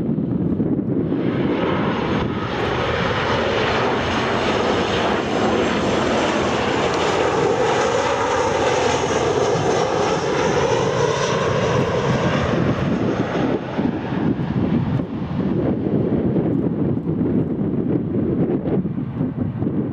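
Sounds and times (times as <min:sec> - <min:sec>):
jet engines rumbling: 0:00.0 - 0:19.9.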